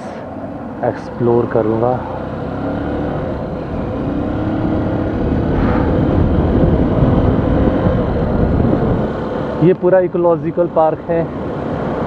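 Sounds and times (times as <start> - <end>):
low engine hum: 0.0 - 12.0
road and wind noise: 0.0 - 12.0.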